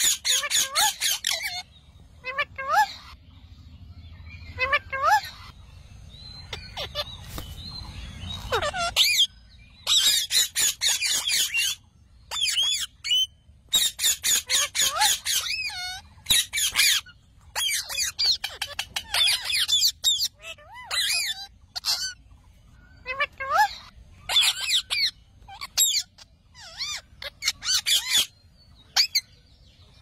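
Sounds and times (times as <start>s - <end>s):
parakeets squawking: 0.0s - 3.4s, 4.1s - 30.0s.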